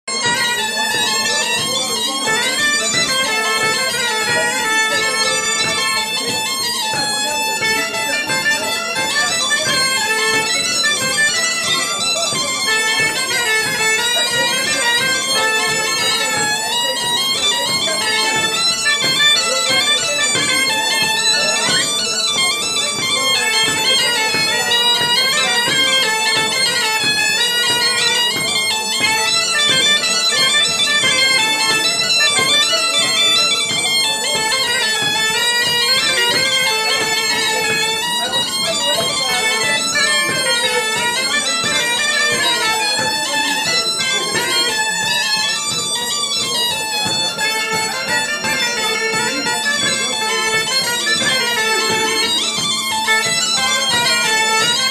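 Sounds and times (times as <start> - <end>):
bombarde and bagpipe dance tune: 0.0 - 54.9.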